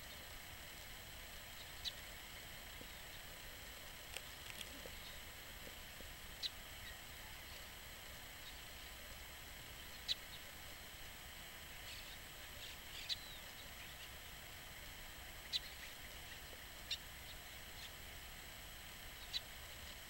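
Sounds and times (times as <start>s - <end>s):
small birds chirping: 0.0s - 10.8s, 11.7s - 18.2s, 19.0s - 20.0s
faint outdoor hiss: 0.0s - 20.0s.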